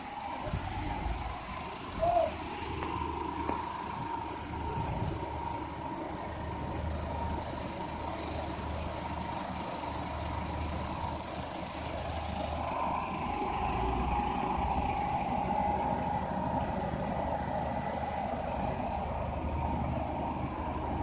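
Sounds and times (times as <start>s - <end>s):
thin constant whine: 0.0s - 21.0s.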